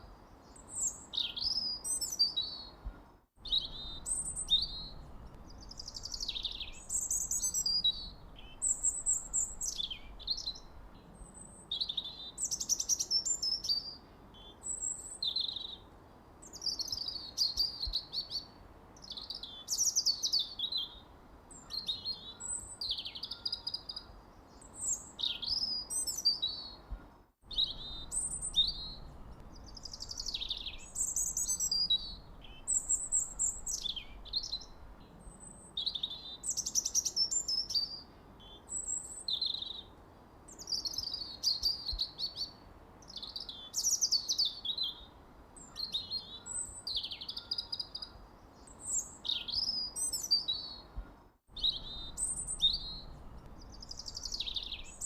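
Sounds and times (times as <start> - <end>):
faint background hiss: 0.0 - 55.0
songbirds chirping and singing: 0.4 - 15.9, 16.5 - 39.9, 40.5 - 55.0.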